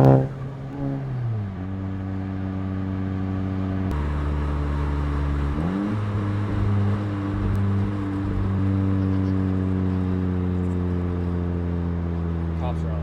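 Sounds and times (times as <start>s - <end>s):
car exhaust while driving: 0.0s - 13.0s.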